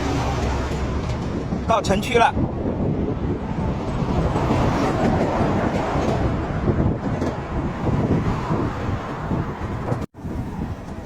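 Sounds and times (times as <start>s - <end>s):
road noise: 0.0s - 11.0s
wind noise on microphone: 0.0s - 11.0s.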